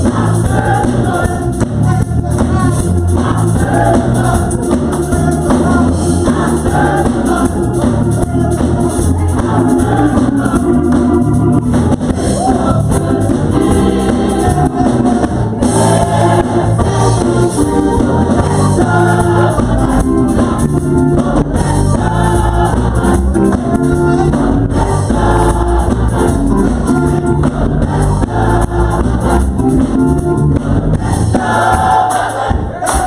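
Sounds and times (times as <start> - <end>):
organ: 0.0 - 32.5
gospel choir singing: 0.0 - 33.0
steady bass: 0.0 - 33.0.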